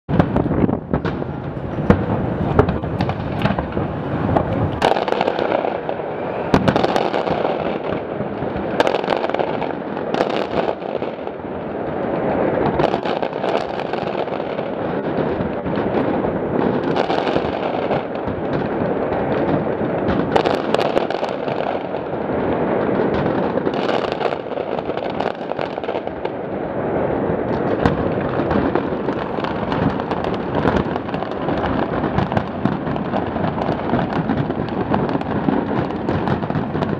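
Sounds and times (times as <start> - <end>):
fireworks sharp bangs: 0.1 - 36.9
overlapping fireworks explosions: 0.1 - 36.9.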